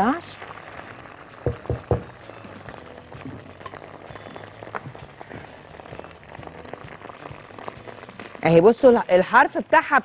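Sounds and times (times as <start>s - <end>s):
paste crackling in a frying pan: 0.0s - 10.0s.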